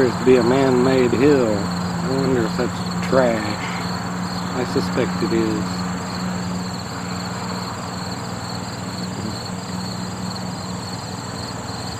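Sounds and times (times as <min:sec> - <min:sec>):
crickets chirping: 0:00.0 - 0:11.9
low mechanical hum: 0:00.0 - 0:11.9.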